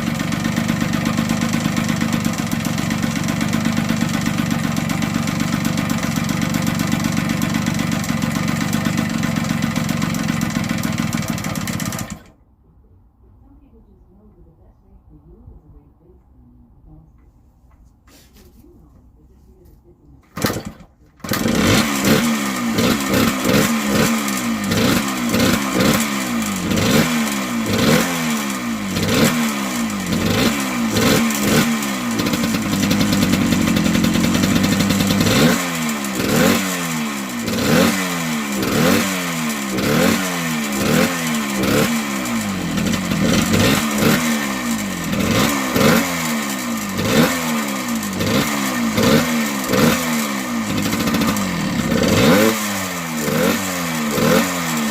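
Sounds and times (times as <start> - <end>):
two-stroke engine revving: 0.0 - 12.4, 20.3 - 54.9.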